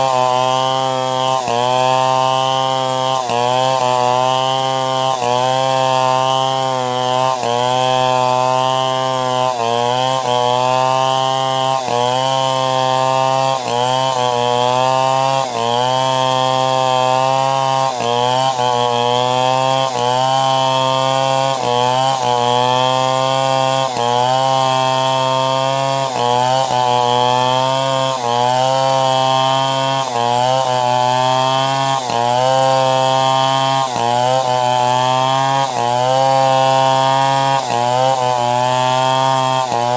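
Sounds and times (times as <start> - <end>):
chainsaw ripping timber: 0.0 - 39.9.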